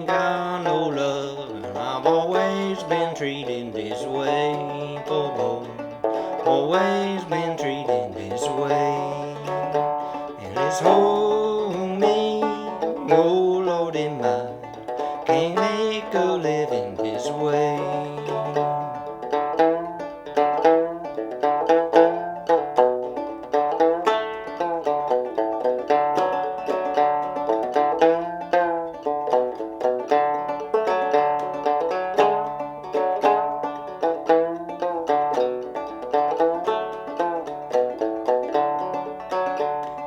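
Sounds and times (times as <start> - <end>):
banjo plucking: 0.0 - 40.0.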